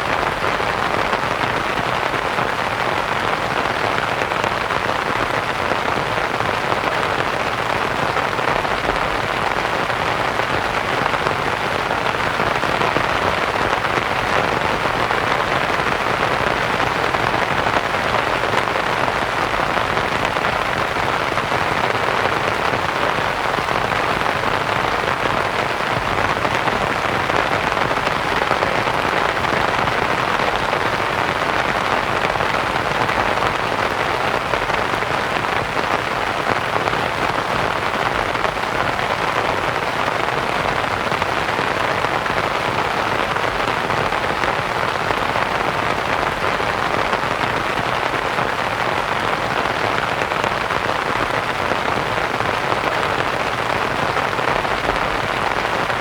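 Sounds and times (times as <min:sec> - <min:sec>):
rain pattering on canvas tent: 0:00.0 - 0:56.0
white-noise hiss: 0:00.0 - 0:56.0.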